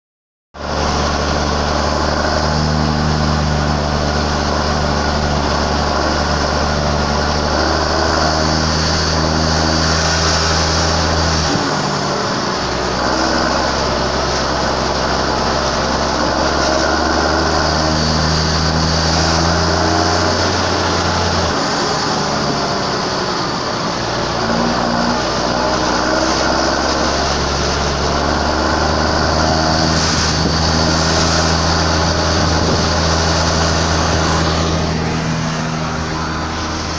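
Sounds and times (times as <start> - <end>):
tractor diesel engine running: 0.5 - 36.9.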